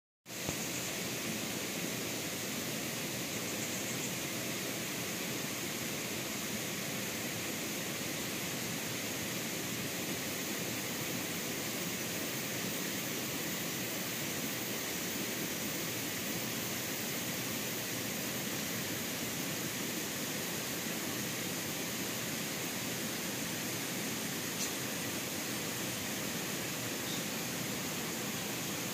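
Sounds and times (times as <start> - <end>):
stream flowing over rocks: 4.2 - 28.9.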